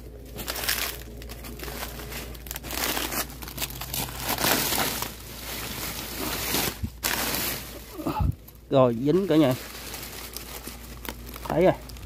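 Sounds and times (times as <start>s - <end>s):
dry leaves crackling and rustling: 0.0s - 12.0s.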